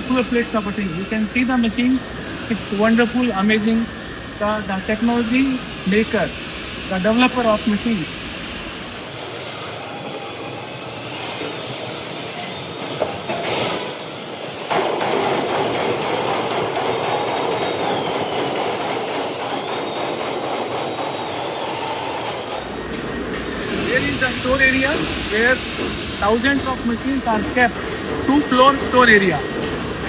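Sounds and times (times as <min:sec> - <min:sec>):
factory machinery noise: 0:00.0 - 0:30.0.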